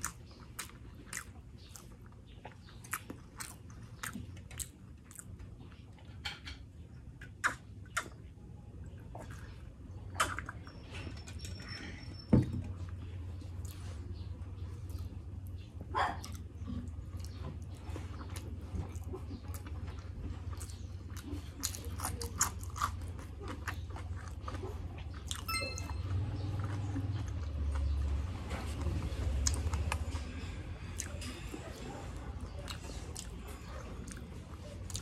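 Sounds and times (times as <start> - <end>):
chewing and crunching: 0.0 - 35.0.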